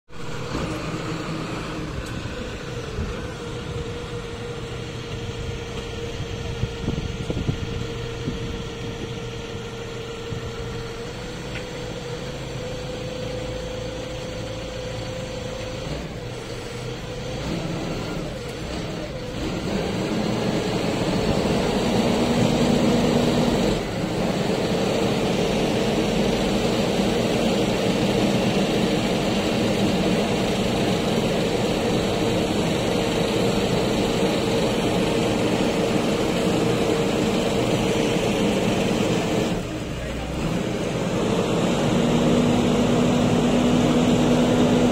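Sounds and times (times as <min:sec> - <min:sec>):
forklift engine running: 0:00.1 - 0:44.9.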